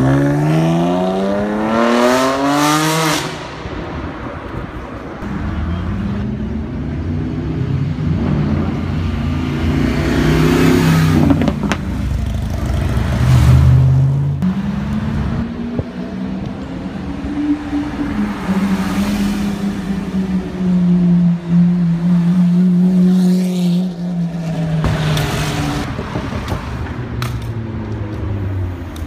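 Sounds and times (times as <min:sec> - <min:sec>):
cars driving past: 0:00.0 - 0:29.0.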